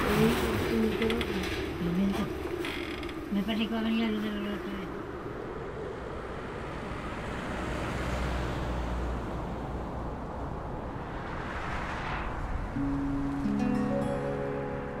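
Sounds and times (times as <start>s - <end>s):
wind buffeting microphone: 0.0s - 13.5s
wind rushing: 0.0s - 14.6s.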